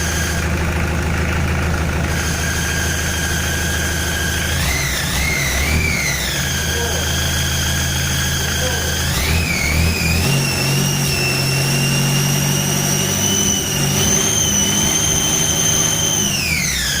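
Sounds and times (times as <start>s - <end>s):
diesel engine running: 0.0s - 17.0s
high whine: 0.0s - 17.0s.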